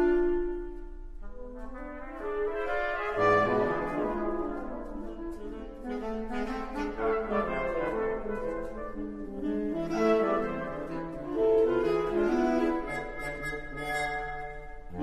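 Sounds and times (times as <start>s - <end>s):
wind ensemble playing: 0.0s - 15.0s.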